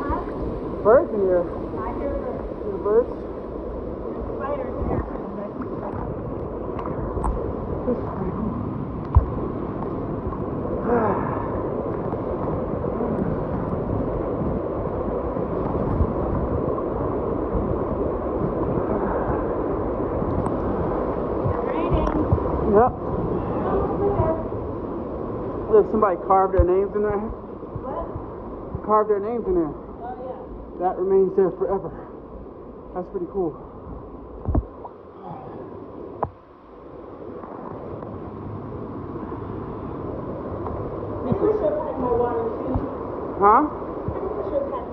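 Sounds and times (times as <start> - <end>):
water rushing in gorge: 0.0 - 32.2, 33.0 - 44.9.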